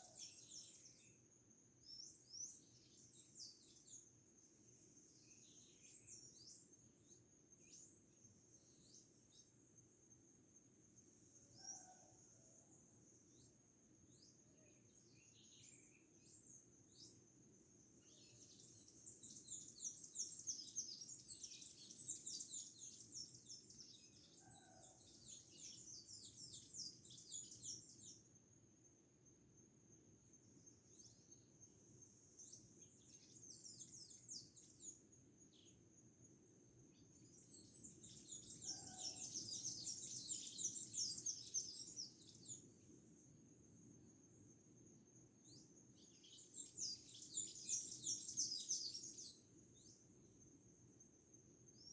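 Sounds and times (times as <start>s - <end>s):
small birds twittering: 0.0s - 10.3s, 14.1s - 17.3s, 18.0s - 28.3s, 30.6s - 35.8s, 37.0s - 44.7s, 45.4s - 51.9s.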